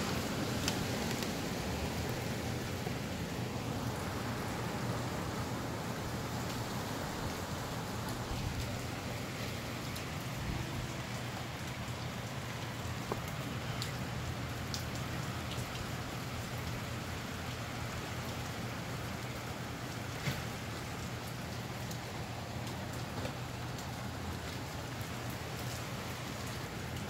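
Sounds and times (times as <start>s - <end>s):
raindrops ticking: 0.0s - 27.0s
steady rain hiss: 0.0s - 27.0s.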